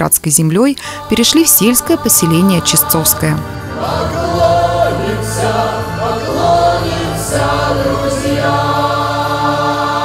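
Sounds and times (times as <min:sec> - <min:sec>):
man and woman singing: 0:00.8 - 0:10.0
sustained accompaniment: 0:00.8 - 0:10.0
choir singing: 0:00.9 - 0:10.0.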